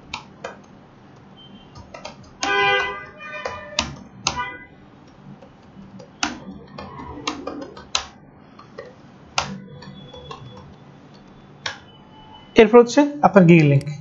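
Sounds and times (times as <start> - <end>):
keyboard typing clicks: 0.0 - 11.9.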